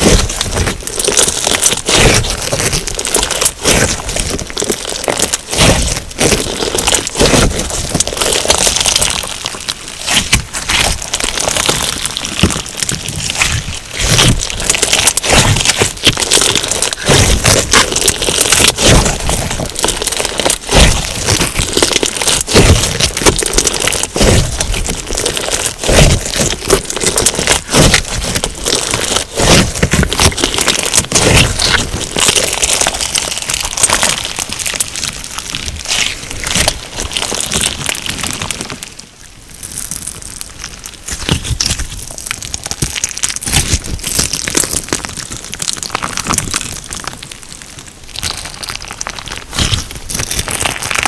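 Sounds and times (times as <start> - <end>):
crunchy slime crackling: 0.0 - 51.0.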